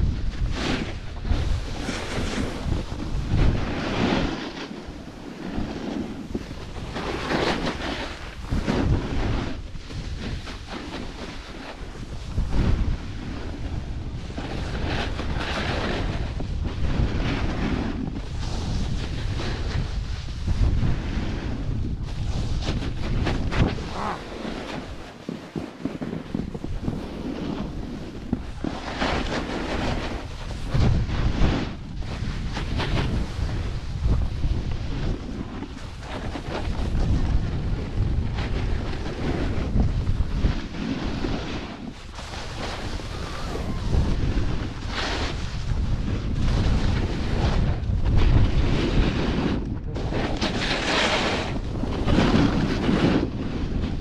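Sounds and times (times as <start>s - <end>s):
snowboard scraping over snow: 0.0s - 54.0s
wind buffeting microphone: 0.0s - 54.0s.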